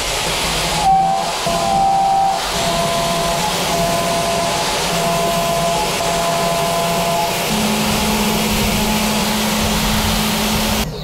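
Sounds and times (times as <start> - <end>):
low steady hum: 0.0 - 11.0
milling machine cutting steel: 0.0 - 11.0.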